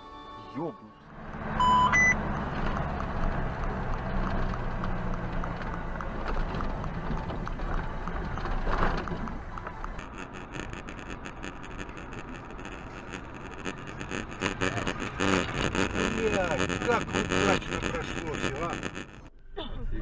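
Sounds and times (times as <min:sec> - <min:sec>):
vehicle engine and road rumble: 0:00.9 - 0:20.0
faint ticking: 0:01.3 - 0:19.3.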